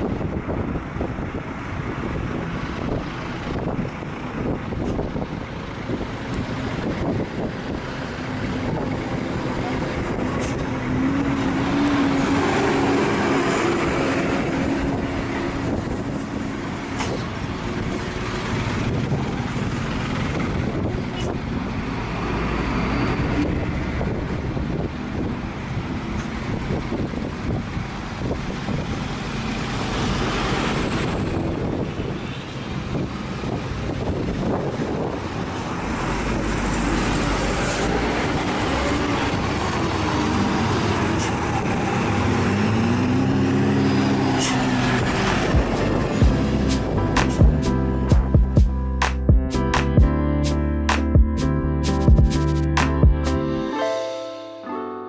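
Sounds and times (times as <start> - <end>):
wind on microphone: 0.0 - 21.9, 22.9 - 29.2, 29.8 - 47.5
heavy trucks driving uphill: 0.0 - 53.6
road traffic noise: 0.0 - 54.6.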